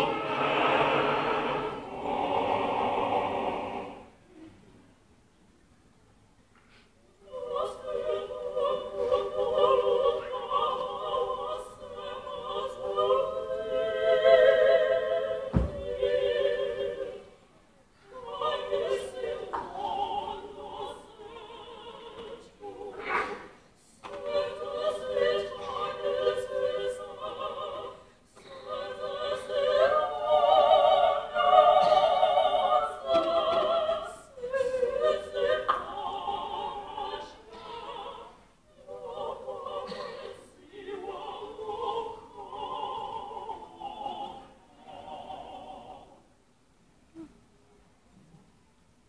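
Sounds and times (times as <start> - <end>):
mixed choir singing: 0.0 - 4.5, 7.2 - 46.3.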